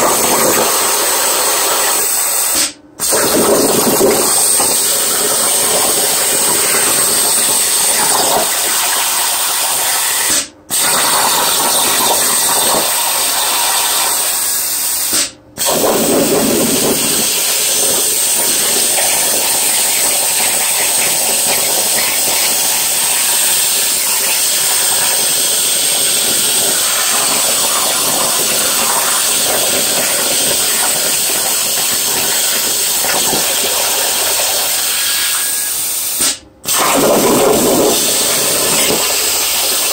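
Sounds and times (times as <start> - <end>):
plasma arc hissing: 0.0 - 39.9.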